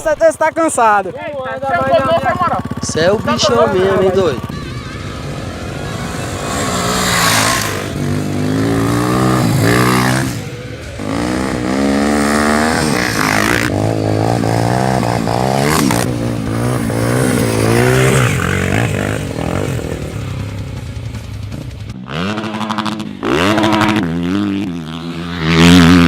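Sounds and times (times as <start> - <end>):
motorcycle engines revving: 0.0 - 26.0.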